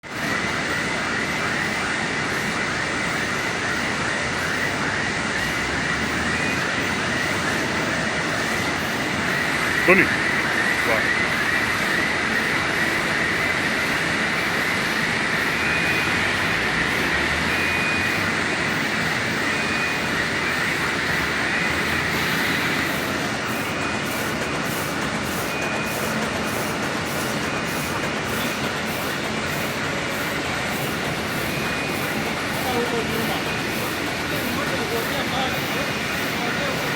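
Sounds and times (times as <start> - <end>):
high machine whine: 0.0 - 36.9
paper cutting machine running: 0.1 - 36.9
faint regular mechanical beat: 5.6 - 36.9.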